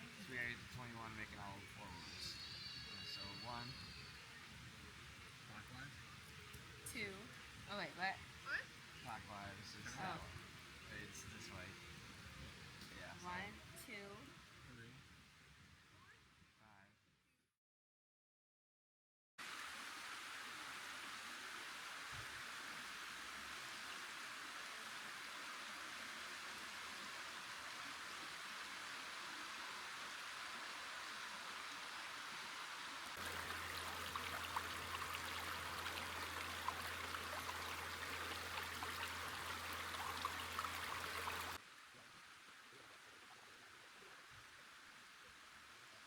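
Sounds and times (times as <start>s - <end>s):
water splashes and drips: 0.0s - 13.2s, 19.4s - 46.0s
flowing creek: 0.0s - 15.5s, 19.4s - 46.0s
faint hiss: 0.0s - 16.9s, 19.4s - 46.0s.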